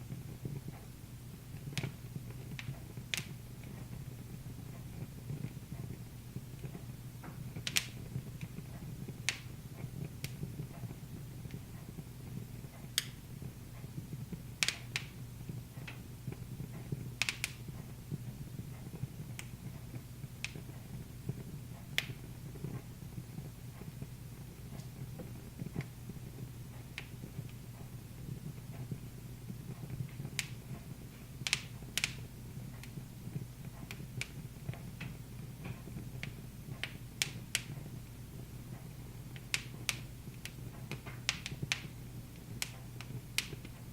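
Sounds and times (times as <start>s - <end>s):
steady low hum: 0.0s - 43.9s
wood fire crackling and popping: 0.0s - 43.9s.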